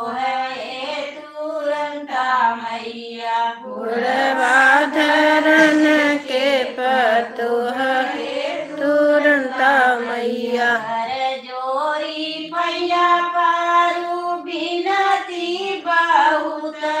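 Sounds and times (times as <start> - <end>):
women singing devotional song: 0.0 - 17.0.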